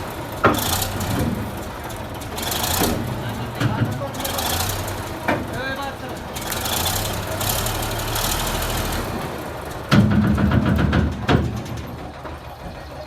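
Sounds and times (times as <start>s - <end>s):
bulldozer diesel engine: 0.0s - 13.0s.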